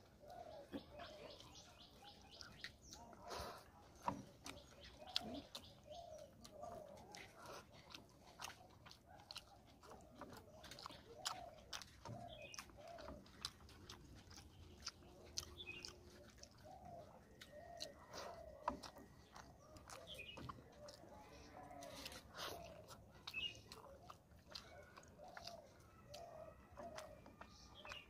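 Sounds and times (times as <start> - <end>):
pigeon cooing: 0.0 - 3.6, 4.5 - 8.0, 9.1 - 14.5, 15.3 - 28.0
wet chewing: 0.0 - 28.0
mouth clicks: 0.2 - 28.0.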